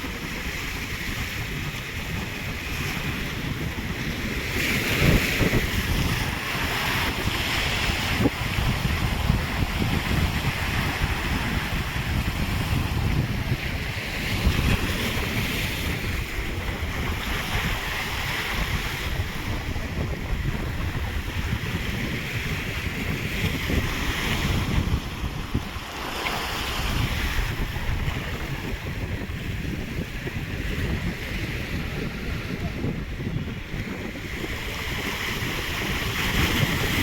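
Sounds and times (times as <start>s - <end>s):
sea waves breaking: 0.0s - 37.0s
wind buffeting microphone: 0.0s - 37.0s.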